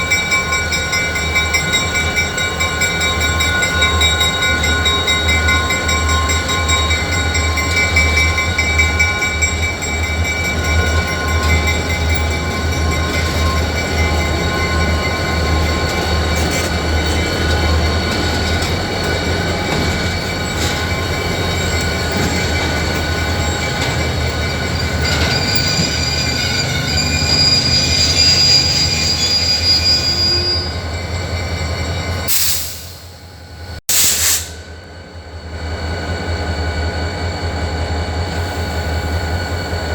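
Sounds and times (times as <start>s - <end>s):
freight train wheels squealing: 0.0s - 39.9s
train rumble: 0.0s - 39.9s.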